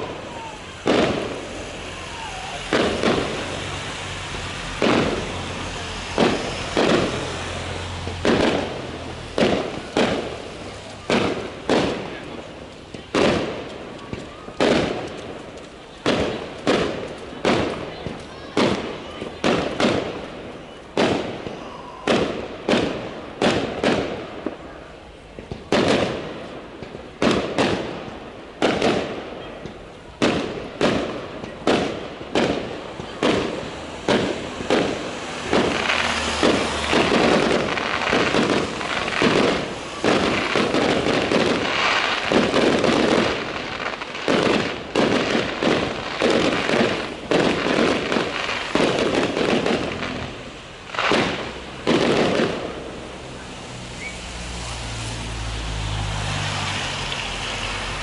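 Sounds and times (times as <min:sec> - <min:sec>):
firework bangs: 0:00.0 - 0:58.0
firework crackle: 0:00.0 - 0:58.0.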